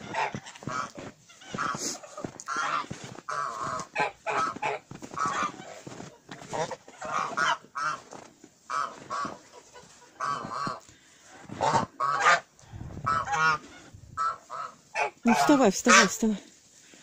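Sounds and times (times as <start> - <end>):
geese honking: 0.0 - 16.4.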